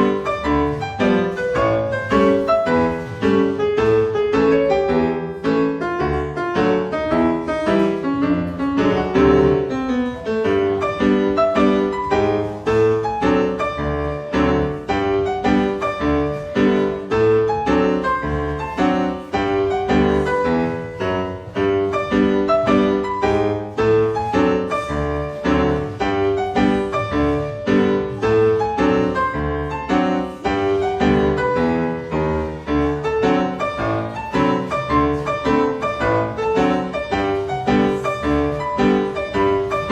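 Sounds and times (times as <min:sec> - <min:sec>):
piano dance music: 0:00.0 - 0:39.9.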